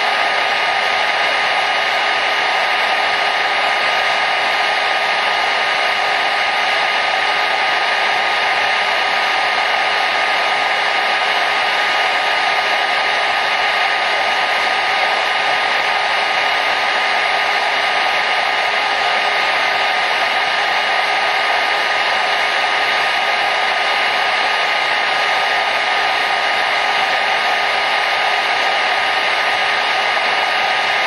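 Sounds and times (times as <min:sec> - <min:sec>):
hair dryer blowing air: 0:00.0 - 0:31.0.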